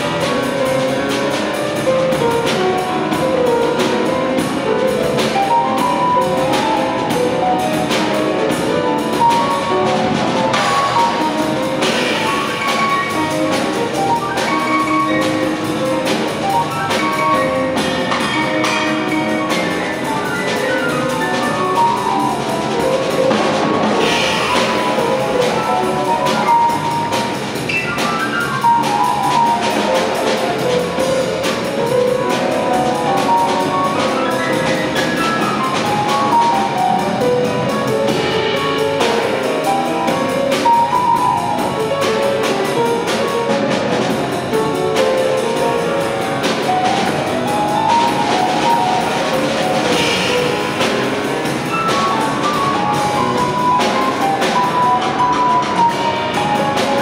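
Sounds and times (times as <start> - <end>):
jazz quartet playing: 0.0 - 57.0.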